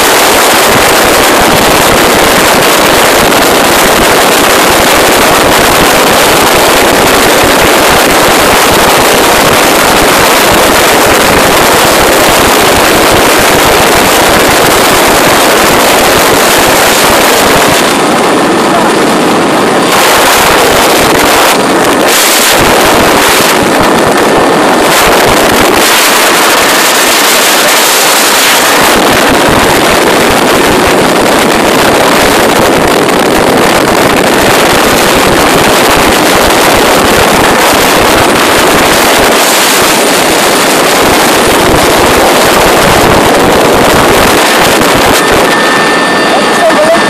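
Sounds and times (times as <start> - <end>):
helicopter engine and rotor roar: 0.0 - 47.0
wind buffeting microphone: 0.0 - 47.0.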